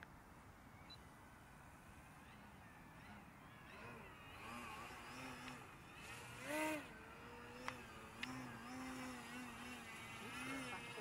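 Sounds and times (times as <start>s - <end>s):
model plane motor whine: 1.6s - 11.0s.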